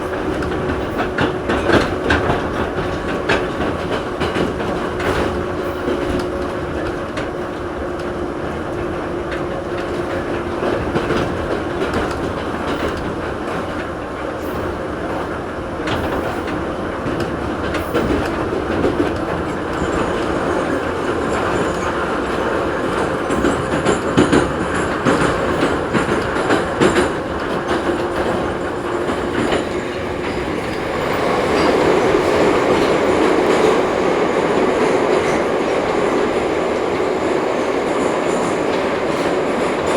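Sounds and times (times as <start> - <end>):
rail-joint clicks: 0.0 - 39.9
train wheels rumbling on rail: 0.0 - 39.9.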